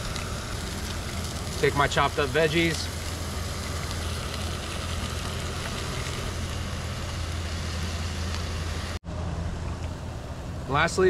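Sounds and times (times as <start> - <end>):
food sizzling in oil: 0.0 - 9.0
gas stove burner noise: 0.0 - 9.0.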